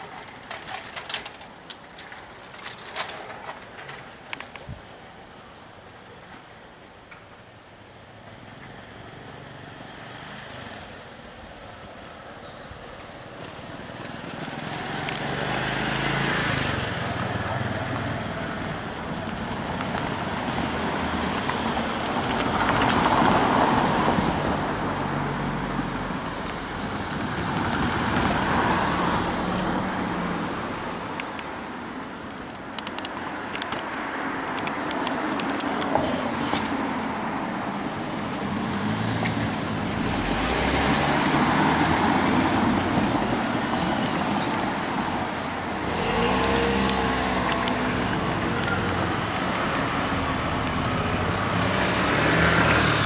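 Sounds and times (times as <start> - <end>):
vehicles passing rumble: 0.0 - 53.0.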